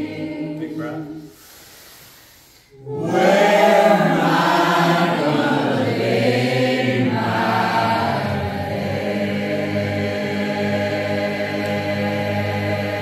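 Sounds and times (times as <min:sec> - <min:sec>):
group singing a cappella: 0:00.0 - 0:01.6, 0:02.7 - 0:13.0.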